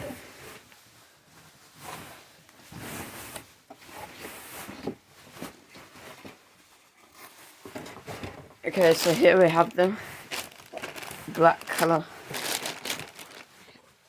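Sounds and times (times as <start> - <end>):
packaging rustling and sliding: 1.2 - 13.8.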